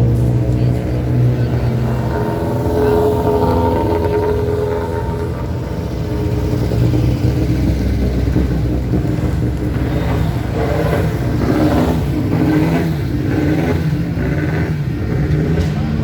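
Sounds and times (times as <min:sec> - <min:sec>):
race car engine revving past: 0:00.0 - 0:16.0.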